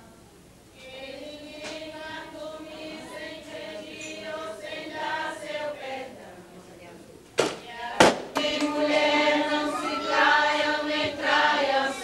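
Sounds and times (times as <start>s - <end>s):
voices singing long-held notes: 0.8s - 6.6s, 7.7s - 12.0s.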